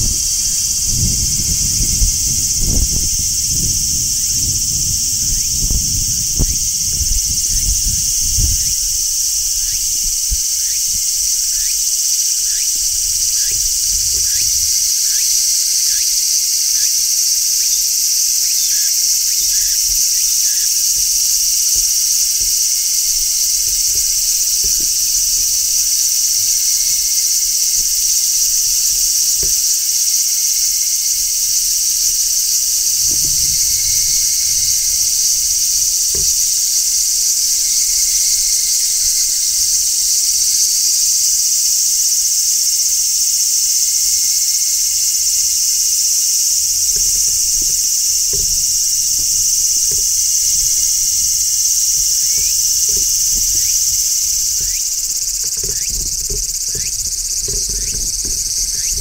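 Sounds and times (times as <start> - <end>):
cicada buzzing drone: 0.0 - 59.0.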